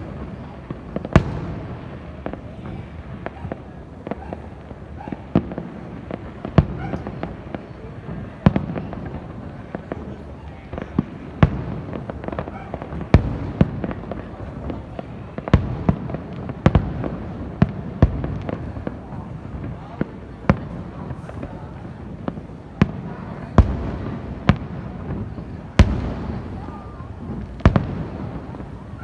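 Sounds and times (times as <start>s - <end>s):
rumble of distant fireworks: 0.0s - 29.0s.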